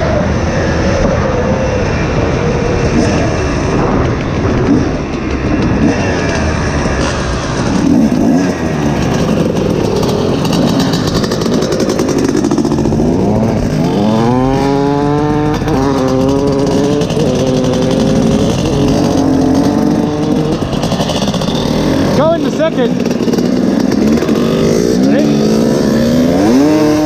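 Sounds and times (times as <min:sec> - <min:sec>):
dirt bike engine accelerating: 0:00.0 - 0:27.0.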